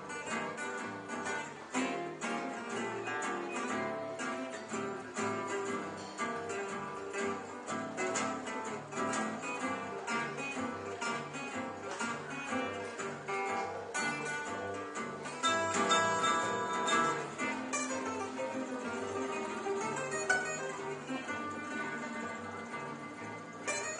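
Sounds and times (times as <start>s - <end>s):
picked guitar lines: 0.0s - 23.9s
plucked double bass: 0.0s - 23.9s
strummed rhythm guitar: 0.0s - 23.9s.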